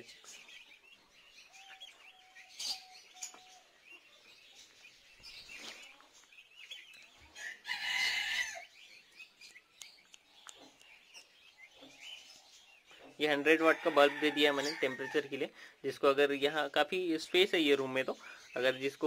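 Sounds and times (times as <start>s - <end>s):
turkey poults peeping: 0.0s - 19.0s.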